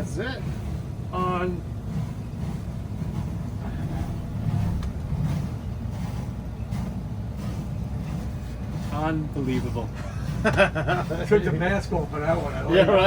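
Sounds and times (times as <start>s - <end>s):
outboard engines rumbling: 0.0s - 13.0s.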